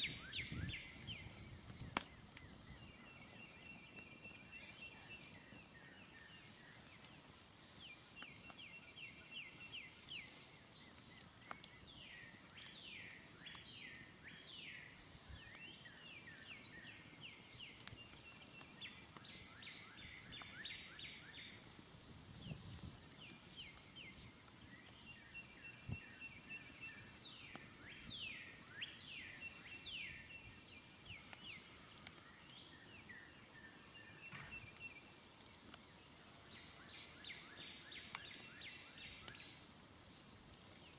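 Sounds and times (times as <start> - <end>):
birds chirping: 0.0 - 21.7, 22.5 - 39.8
campfire crackling: 0.0 - 40.9.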